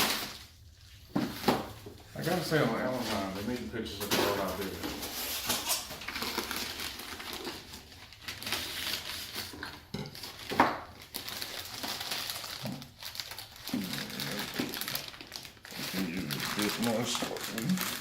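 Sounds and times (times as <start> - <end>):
packaging crinkling: 0.0 - 18.0.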